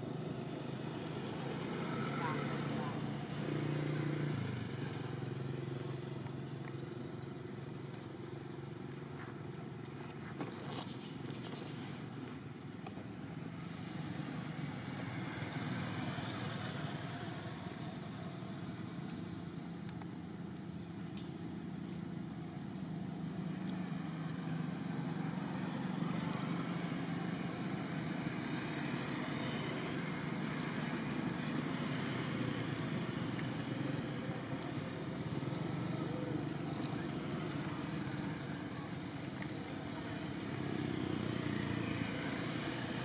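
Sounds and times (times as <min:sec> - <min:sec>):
motor traffic rumble: 0:00.0 - 0:43.0.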